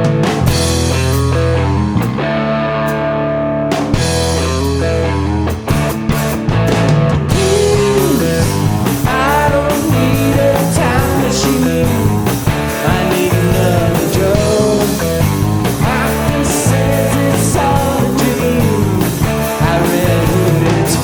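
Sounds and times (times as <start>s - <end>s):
electric guitar: 0.0s - 21.0s
rock band playing live: 0.0s - 21.0s.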